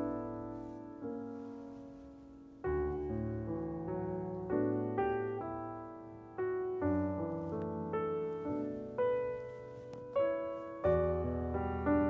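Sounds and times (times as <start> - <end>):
slow gentle piano music: 0.0 - 12.0.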